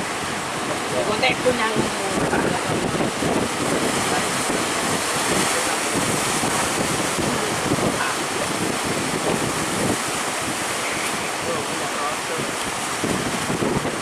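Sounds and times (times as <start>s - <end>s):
surf breaking and rushing: 0.0s - 14.0s
wind buffeting microphone: 0.0s - 14.0s.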